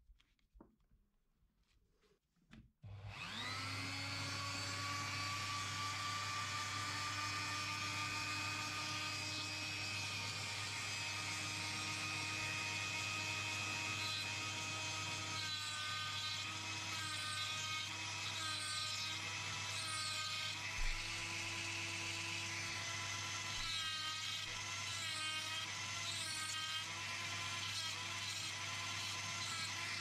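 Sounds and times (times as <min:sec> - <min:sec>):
rotary tool cutting disc whining: 0:02.9 - 0:30.0.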